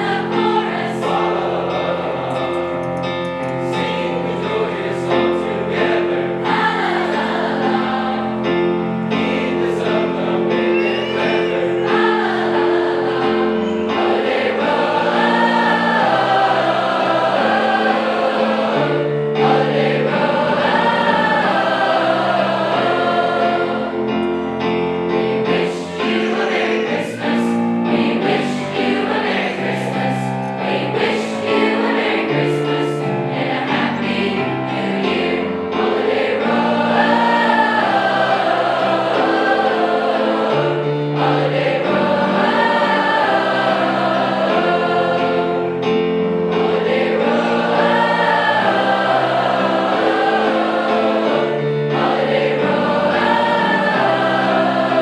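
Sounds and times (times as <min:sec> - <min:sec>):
choir singing in parts: 0:00.0 - 0:55.0
instrumental accompaniment: 0:00.0 - 0:55.0.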